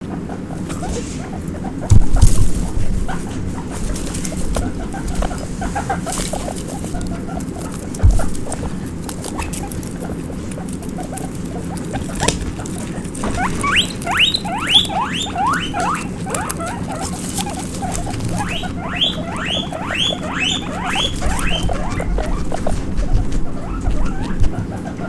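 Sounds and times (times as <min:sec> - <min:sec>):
guinea pig squeaking: 0:00.0 - 0:25.0
small feet pattering: 0:00.4 - 0:25.0.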